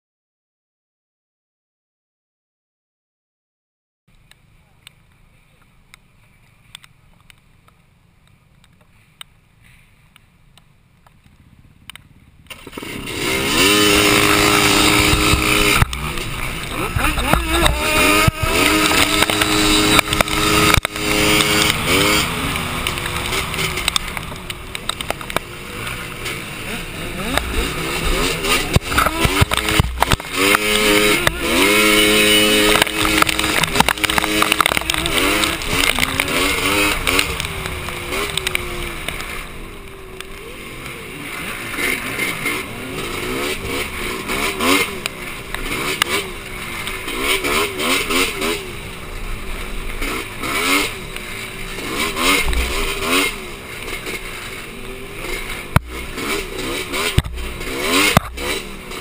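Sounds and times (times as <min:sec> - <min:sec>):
atv engine revving: 0:11.0 - 0:59.0.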